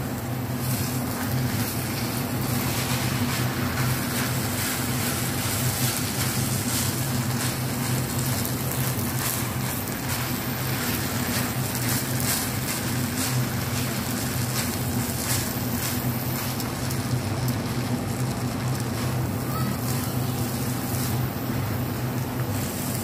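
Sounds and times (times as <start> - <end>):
rice sizzling in a pan: 0.0 - 23.0.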